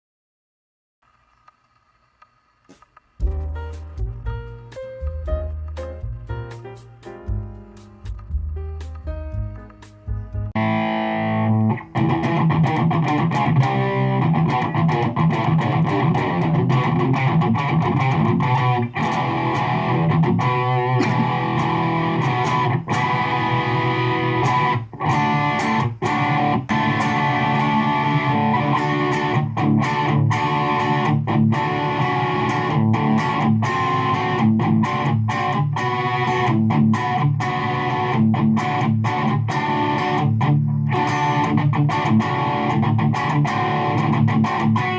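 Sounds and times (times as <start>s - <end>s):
electric guitar playing: 3.2s - 44.9s.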